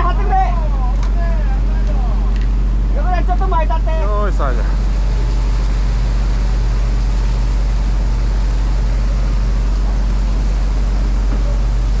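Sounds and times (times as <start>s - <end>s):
boat engine droning: 0.0s - 12.0s
steady noise wash: 0.0s - 12.0s.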